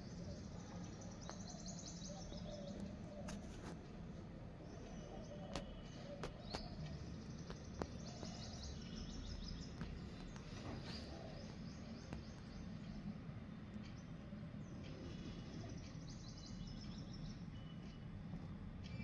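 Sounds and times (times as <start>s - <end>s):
small birds chirping: 0.0s - 19.0s
steady background noise: 0.0s - 19.0s.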